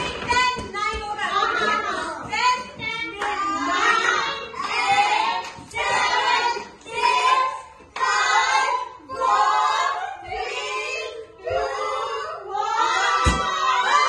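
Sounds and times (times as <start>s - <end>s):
group of voices chanting: 1.2s - 14.0s.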